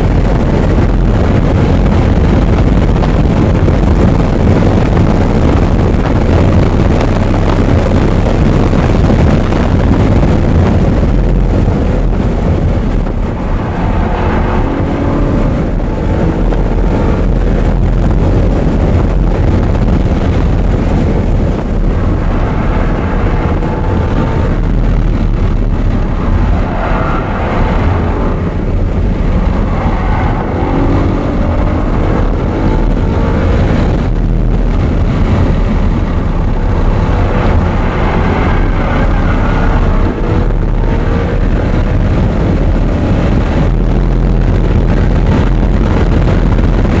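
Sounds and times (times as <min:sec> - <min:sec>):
car engine revving: 0:00.0 - 0:47.0
road rumble: 0:00.0 - 0:47.0
wind noise: 0:00.0 - 0:47.0.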